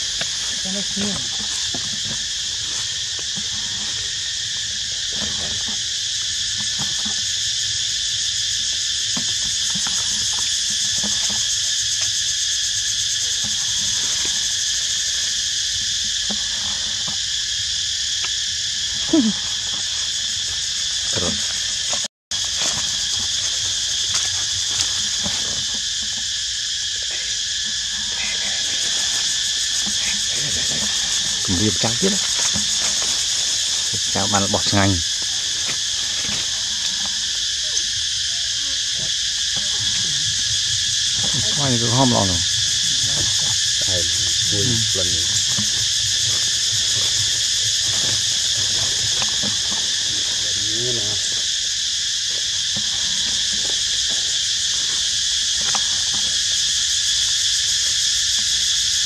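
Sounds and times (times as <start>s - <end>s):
insect chorus droning: 0.0s - 59.0s.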